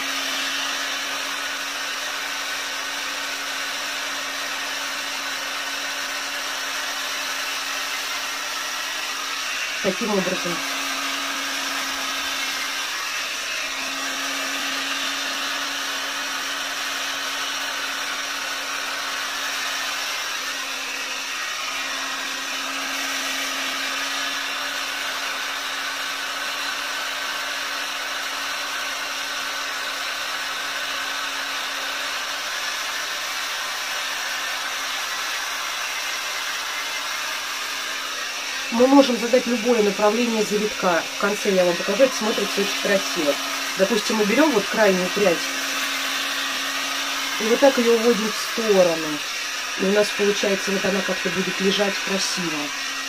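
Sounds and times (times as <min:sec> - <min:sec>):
hot-air brush blowing: 0:00.0 - 0:53.0.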